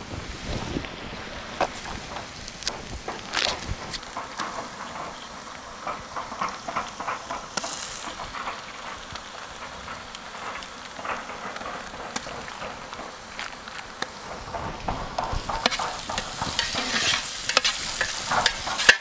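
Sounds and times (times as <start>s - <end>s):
onions sizzling in butter: 0.4s - 19.0s.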